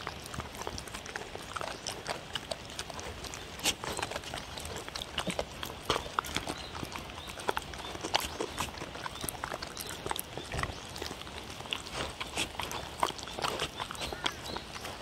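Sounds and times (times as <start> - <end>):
dogs chewing and licking: 0.0 - 15.0.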